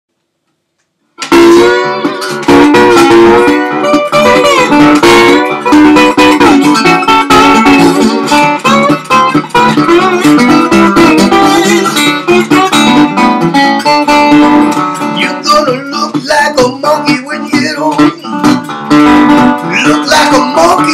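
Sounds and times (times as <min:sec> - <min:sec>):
slide guitar: 0:01.2 - 0:20.9.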